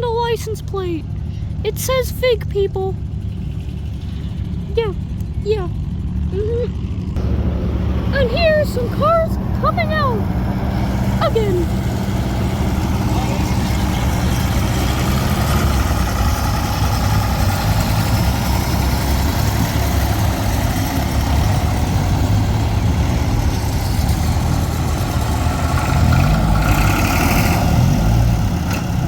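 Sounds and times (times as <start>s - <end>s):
vintage car engines running: 0.0s - 29.0s
car engine revving: 0.8s - 29.0s.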